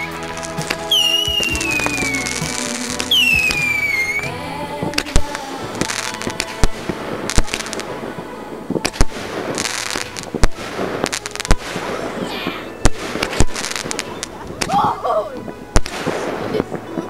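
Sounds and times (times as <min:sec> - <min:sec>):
fireworks bangs: 0:00.0 - 0:17.0
fireworks crackling hiss: 0:00.0 - 0:17.0.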